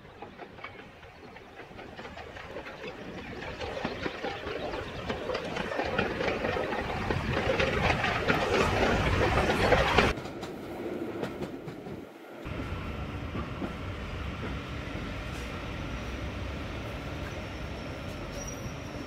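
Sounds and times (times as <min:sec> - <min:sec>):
train wheel clatter: 0:00.0 - 0:15.5
steam locomotive passing: 0:00.0 - 0:19.0
train rolling heard from aboard: 0:00.0 - 0:19.0.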